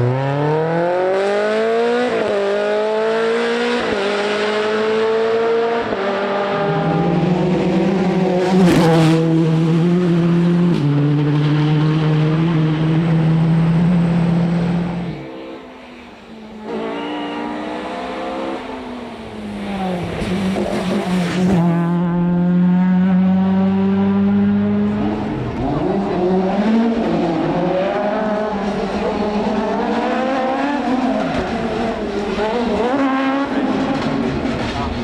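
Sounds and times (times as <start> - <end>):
rally car engine at high revs: 0.0 - 35.0.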